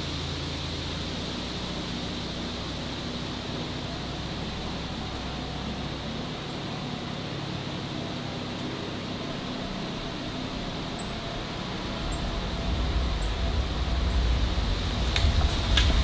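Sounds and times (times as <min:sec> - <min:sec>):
outdoor hum with low rumble: 0:00.0 - 0:16.0.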